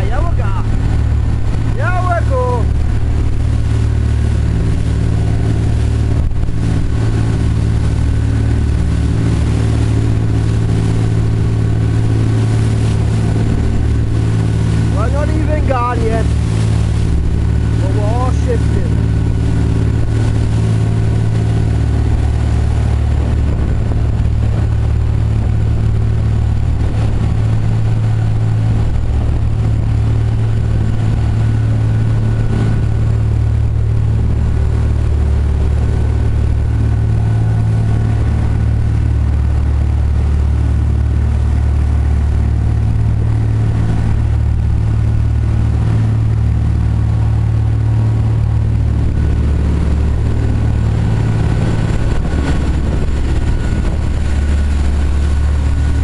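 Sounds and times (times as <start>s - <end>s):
boat engines droning: 0.0s - 56.0s
water rushing along hull: 0.0s - 56.0s.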